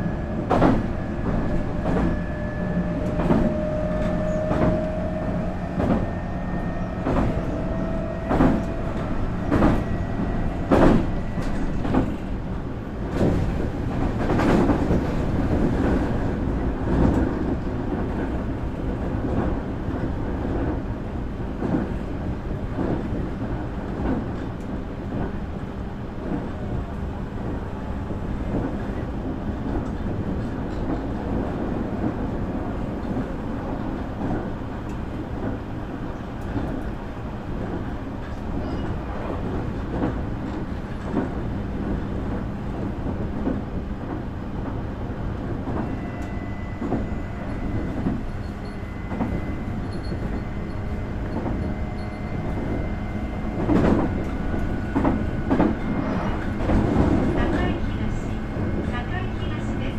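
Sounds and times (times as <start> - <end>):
rail joints clickety-clack: 0.0 - 59.9
train wheels rolling on rails: 0.0 - 59.9.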